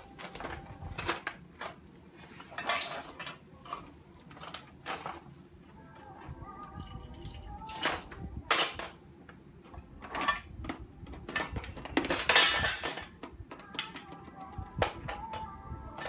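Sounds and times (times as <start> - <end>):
containers and tins clattering: 0.0 - 5.4, 6.7 - 9.0, 9.6 - 16.0.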